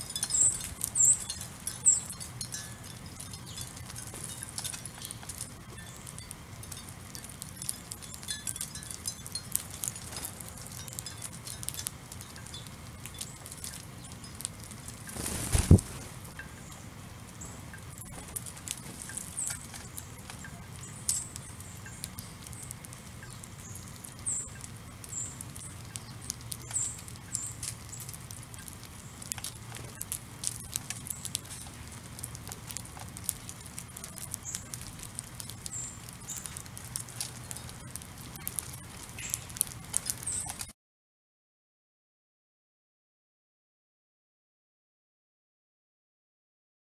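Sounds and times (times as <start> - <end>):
sparrows chirping: 0.0 - 40.6
beaks tapping on seeds: 0.0 - 40.7.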